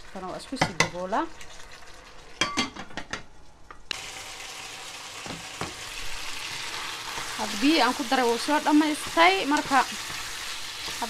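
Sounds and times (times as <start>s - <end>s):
chicken sizzling in a pan: 0.0s - 2.4s, 3.9s - 11.0s.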